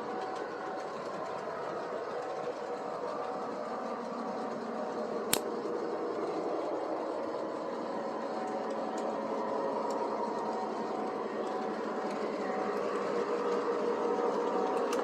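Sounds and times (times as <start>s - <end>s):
electric locomotive rumbling: 0.0s - 15.0s.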